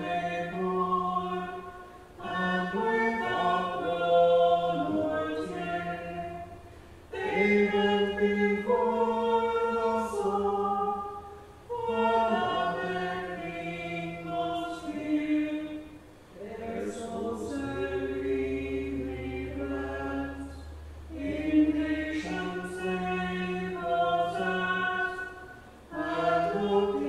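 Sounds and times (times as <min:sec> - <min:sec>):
choir chanting unaccompanied: 0:00.0 - 0:27.0.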